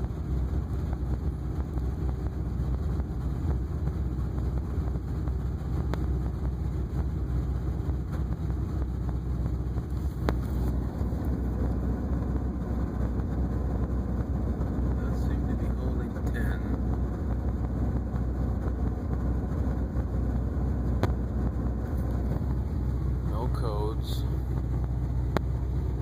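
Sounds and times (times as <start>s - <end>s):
road noise: 0.0s - 26.0s
truck engine drone: 0.0s - 26.0s.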